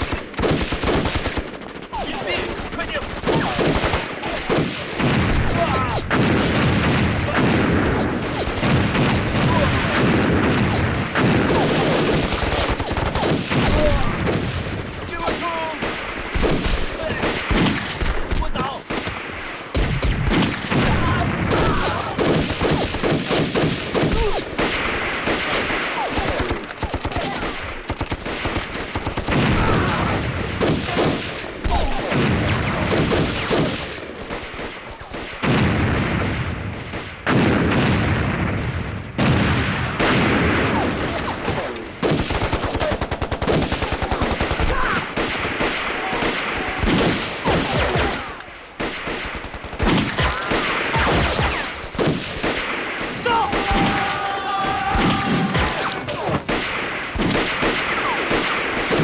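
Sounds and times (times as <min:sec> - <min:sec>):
rifle and machine-gun fire: 0:00.0 - 0:59.0.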